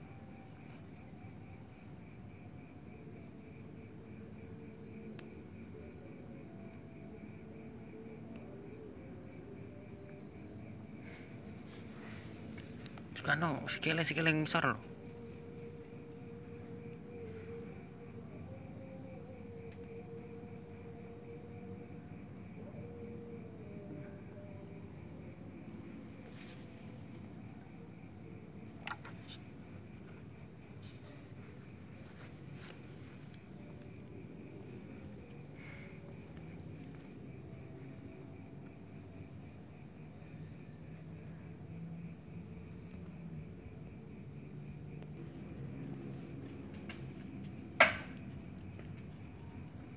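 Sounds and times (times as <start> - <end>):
crickets chirring: 0.0 - 49.9.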